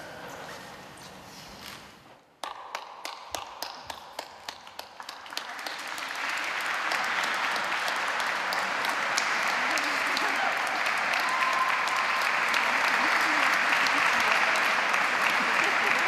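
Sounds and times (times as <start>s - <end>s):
crowd applauding: 3.0s - 16.0s.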